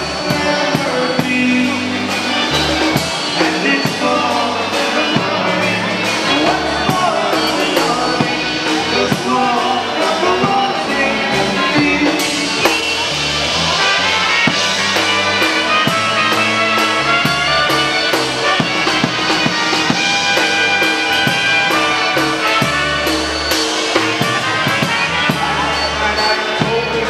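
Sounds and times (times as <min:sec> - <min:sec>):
drum kit beat: 0:00.0 - 0:27.0
polka band playing: 0:00.0 - 0:27.0.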